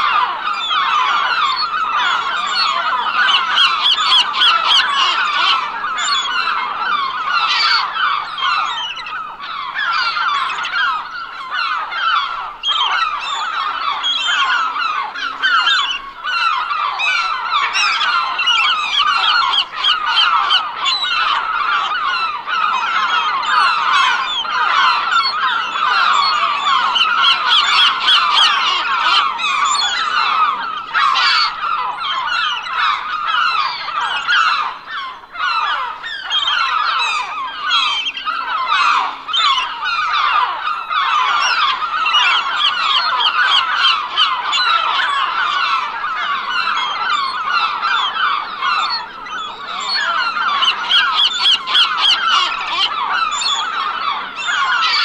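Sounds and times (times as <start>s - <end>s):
gulls calling: 0.0s - 55.0s.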